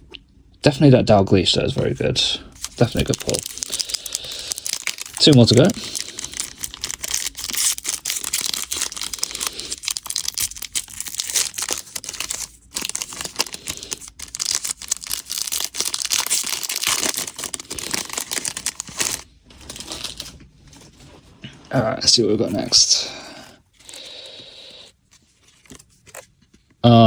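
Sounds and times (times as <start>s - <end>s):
plastic wrapper crinkling: 2.5s - 21.1s, 23.7s - 26.8s.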